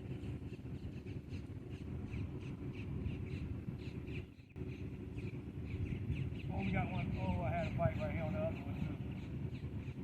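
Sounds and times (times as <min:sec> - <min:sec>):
bird calling: 0:00.0 - 0:10.0
steady low rumble: 0:00.0 - 0:10.0.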